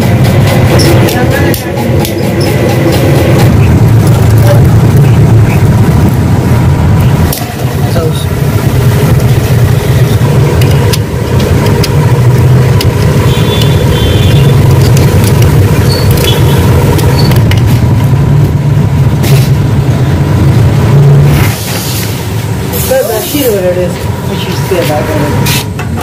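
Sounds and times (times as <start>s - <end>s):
low machine hum: 0.0s - 25.9s.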